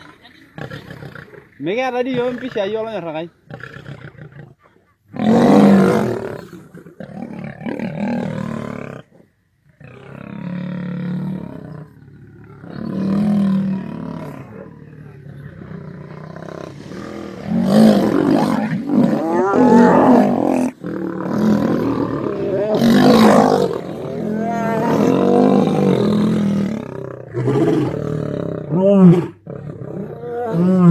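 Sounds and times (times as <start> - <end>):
lions growling and roaring: 3.4 - 30.9.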